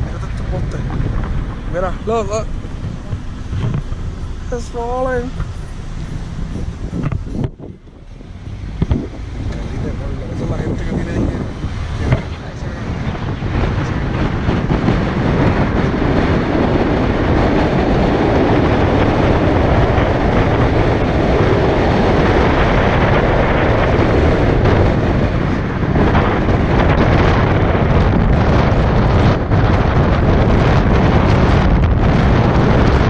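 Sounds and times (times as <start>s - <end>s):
car tyre rumble: 0.0s - 33.0s
wind buffeting microphone: 0.0s - 33.0s.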